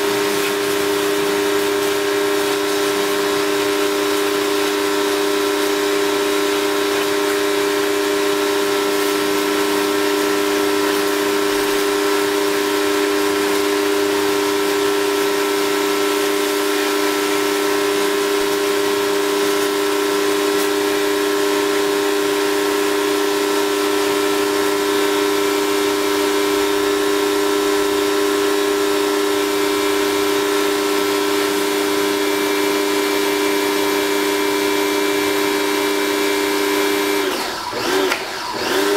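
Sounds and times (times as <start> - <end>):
pressure washer humming: 0.0 - 38.9
water jet hissing on concrete: 0.0 - 38.9.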